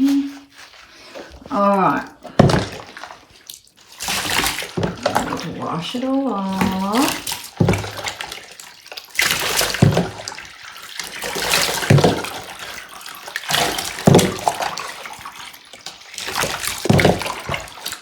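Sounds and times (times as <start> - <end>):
water splashing over dog: 0.0 - 18.0
water trickling: 0.0 - 18.0.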